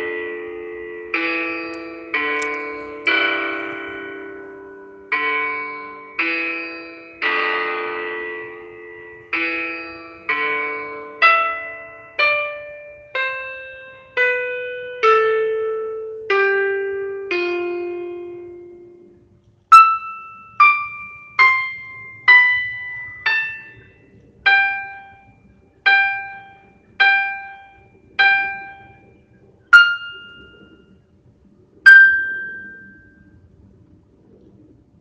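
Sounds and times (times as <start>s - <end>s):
bell-like keyboard notes: 0.0s - 33.4s.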